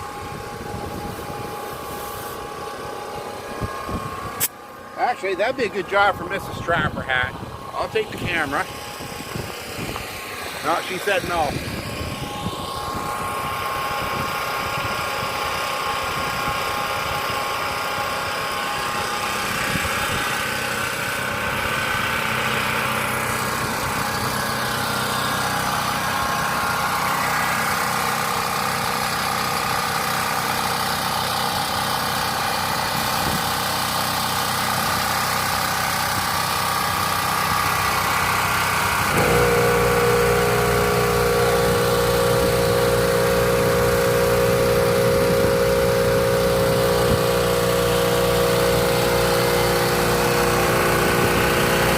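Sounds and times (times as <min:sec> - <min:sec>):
deep loud hum: 0:00.0 - 0:51.9
generator engine running: 0:00.0 - 0:51.9.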